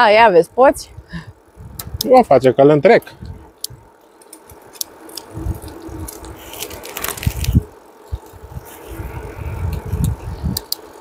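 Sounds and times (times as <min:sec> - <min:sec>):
wind buffeting microphone: 0:00.0 - 0:02.4, 0:03.1 - 0:04.0, 0:05.2 - 0:10.8.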